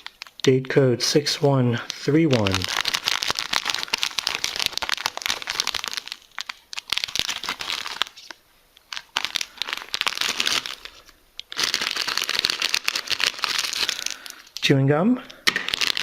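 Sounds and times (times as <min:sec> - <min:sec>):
plastic packet crinkling: 0:00.0 - 0:00.8, 0:01.9 - 0:14.6, 0:15.4 - 0:16.0.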